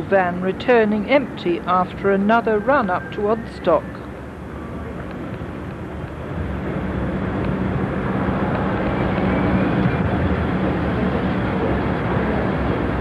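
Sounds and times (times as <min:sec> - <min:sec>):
lorry engine running: 0:00.0 - 0:13.0.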